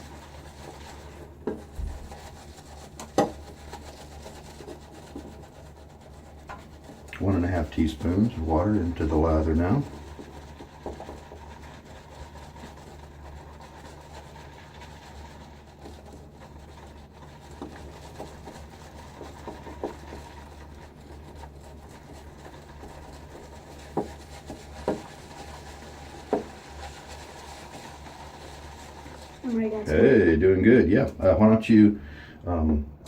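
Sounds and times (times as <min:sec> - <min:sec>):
shaving brush rubbing lather in bowl: 0:00.0 - 0:31.9.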